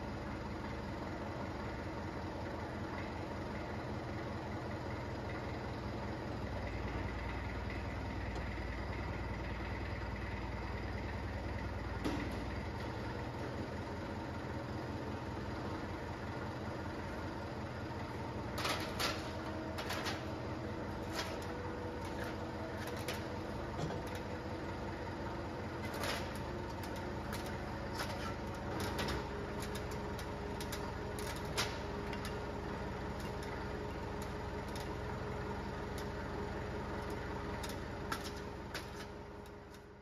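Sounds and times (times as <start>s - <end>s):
boring machine motor hum: 0.0s - 40.0s.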